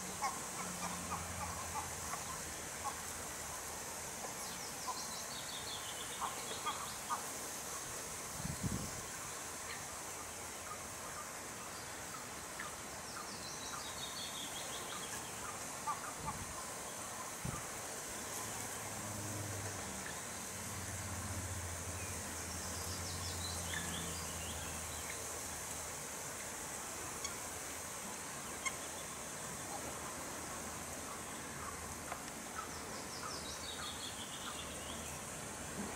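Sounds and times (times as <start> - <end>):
background hiss: 0.0 - 35.9.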